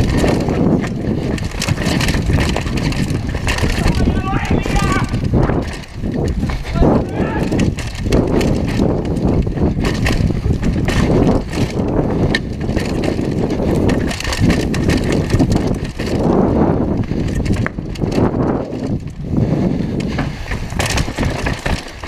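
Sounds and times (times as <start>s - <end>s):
bike rattling over bumps: 0.0s - 22.0s
tyres crunching over dirt: 0.0s - 22.0s
wind on microphone: 0.0s - 22.0s.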